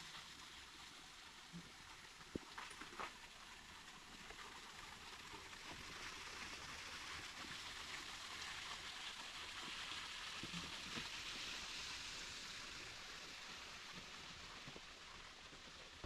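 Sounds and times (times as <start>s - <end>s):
creek water over rocks: 0.0s - 16.0s.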